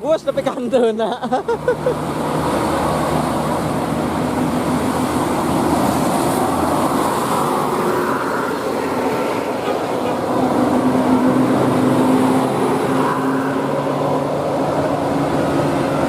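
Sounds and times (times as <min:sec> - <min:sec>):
vehicle engine and tyre rumble: 0:00.0 - 0:16.0.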